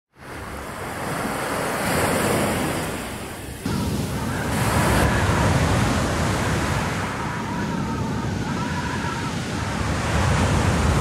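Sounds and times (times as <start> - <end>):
ocean surf breaking: 0.2 - 11.0.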